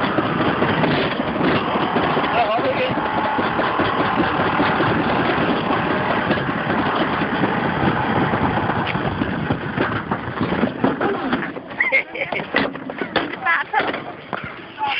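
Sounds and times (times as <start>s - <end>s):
sled knocks and clacks: 0.0s - 14.9s
sled rumbling down steel trough: 0.0s - 14.9s.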